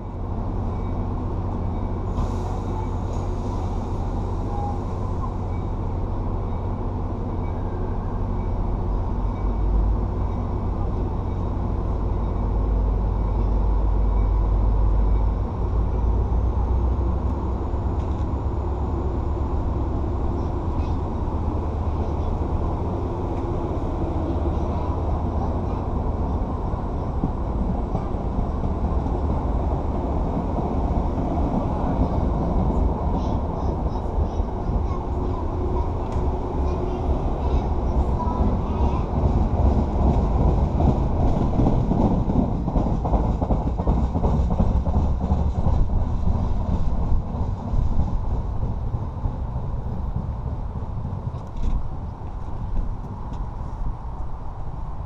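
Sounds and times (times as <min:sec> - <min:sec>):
passenger train rolling past: 0:00.0 - 0:55.0.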